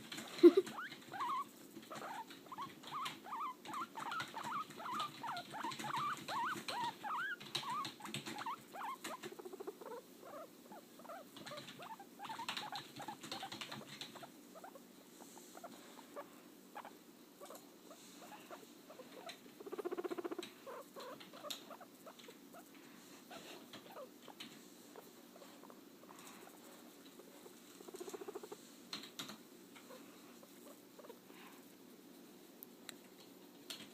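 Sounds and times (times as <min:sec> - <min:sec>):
guinea pig low buzzing call: 0:00.1 - 0:22.7, 0:23.3 - 0:28.7, 0:29.9 - 0:31.6
guinea pig squeaking: 0:00.1 - 0:22.7, 0:23.3 - 0:31.2.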